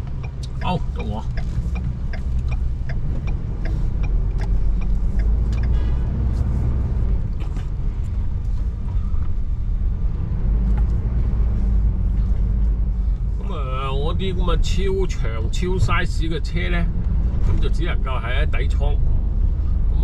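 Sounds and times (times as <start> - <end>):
motorhome engine and road rumble: 0.0 - 20.0.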